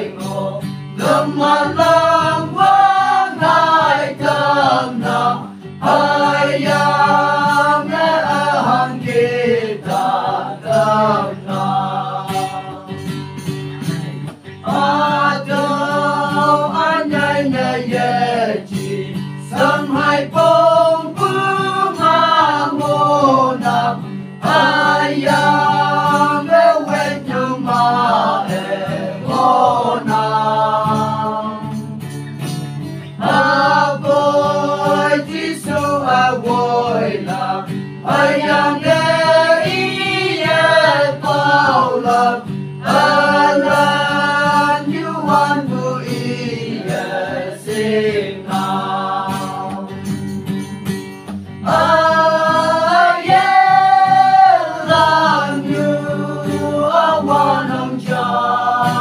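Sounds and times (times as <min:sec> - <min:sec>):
men singing together: 0:00.0 - 0:32.2, 0:33.1 - 0:50.2, 0:51.6 - 0:59.0
strummed acoustic guitars: 0:00.0 - 0:59.0.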